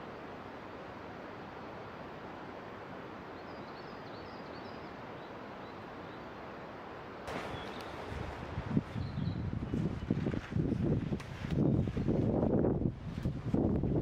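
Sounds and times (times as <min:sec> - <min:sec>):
light rain in forest: 0:00.0 - 0:14.0.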